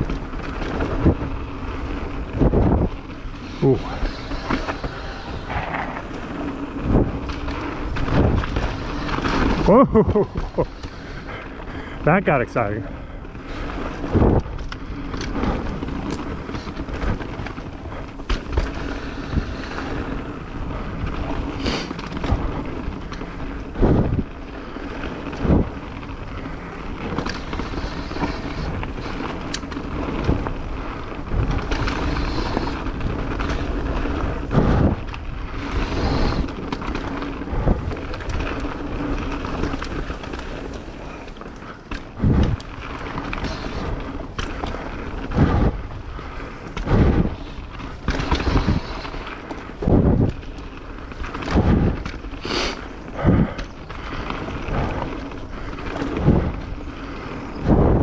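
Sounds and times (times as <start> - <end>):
tyre rumble on dirt: 0.0 - 11.5, 13.4 - 58.0
wind noise on microphone: 0.0 - 58.0.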